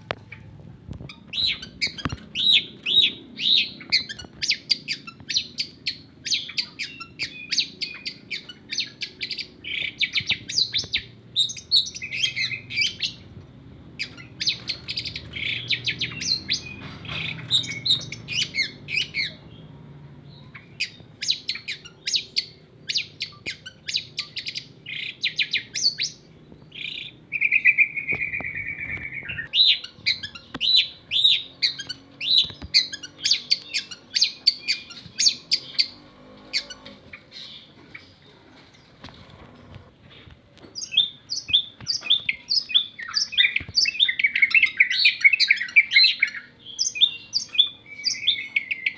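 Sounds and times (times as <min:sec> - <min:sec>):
bird chirping song: 0:00.0 - 0:48.9.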